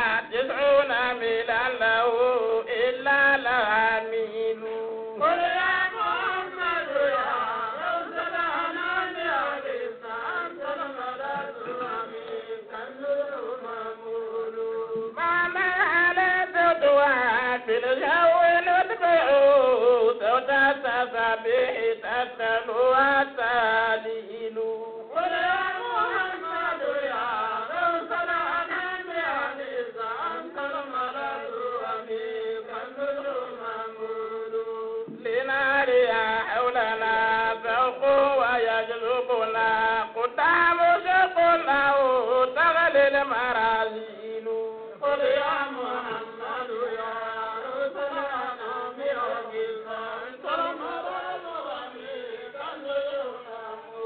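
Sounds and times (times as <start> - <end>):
person chanting: 0.0 - 54.0.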